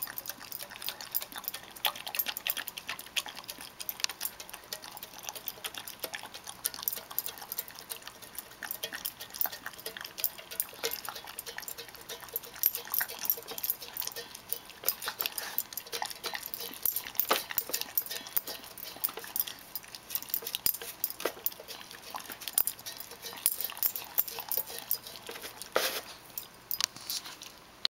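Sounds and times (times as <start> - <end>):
tongue clicking on metal bowl: 0.0 - 25.8
dog licking and smacking food: 0.0 - 27.6.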